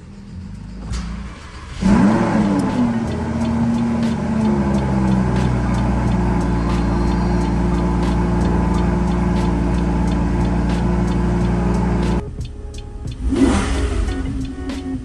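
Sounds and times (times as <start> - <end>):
car engine idling: 0.0 - 15.0
rising rev-like sweep: 0.3 - 15.0.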